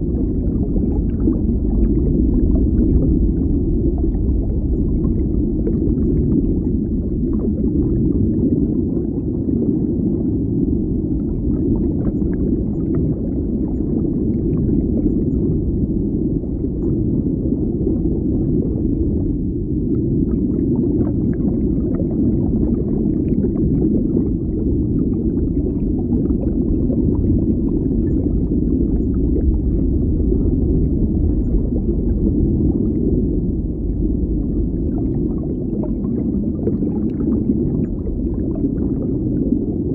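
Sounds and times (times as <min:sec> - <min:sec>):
muffled underwater wash: 0:00.0 - 0:39.9.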